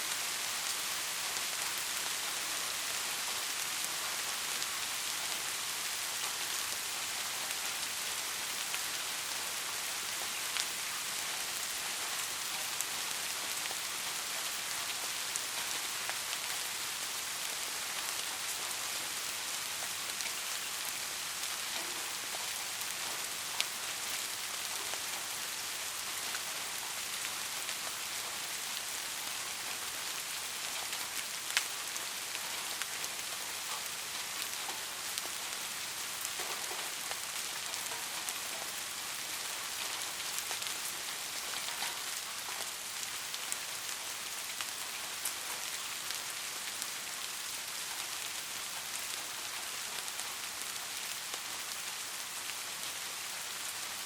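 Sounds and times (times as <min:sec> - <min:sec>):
soft rain hiss: 0:00.0 - 0:54.0.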